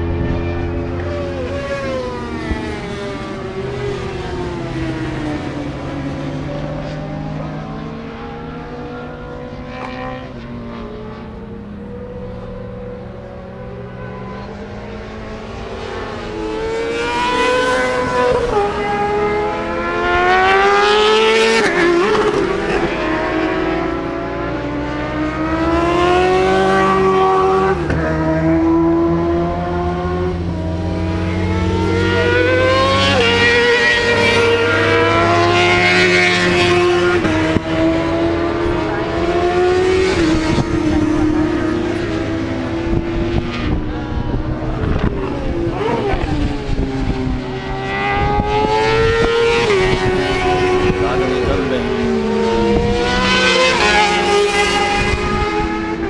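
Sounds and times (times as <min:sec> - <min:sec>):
motorcycle engines accelerating: 0:00.0 - 0:56.0.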